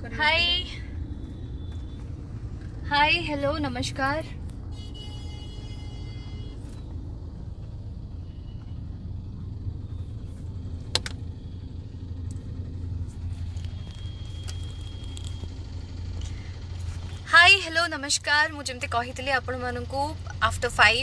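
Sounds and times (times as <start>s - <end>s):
car cabin rumble: 0.0s - 21.0s.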